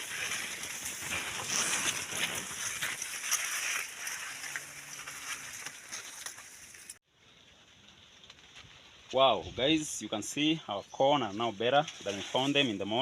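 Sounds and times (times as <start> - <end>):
maize leaves rustling: 0.0 - 13.0.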